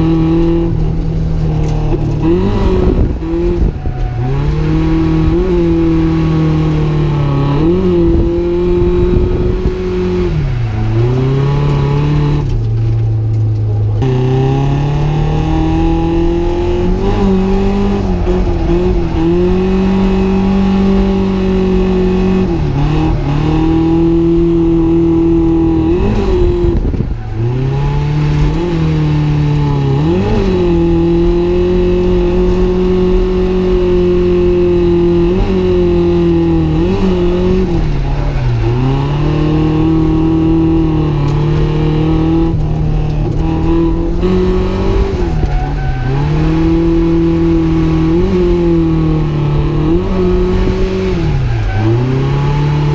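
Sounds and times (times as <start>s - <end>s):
car engine revving high: 0.0s - 52.9s.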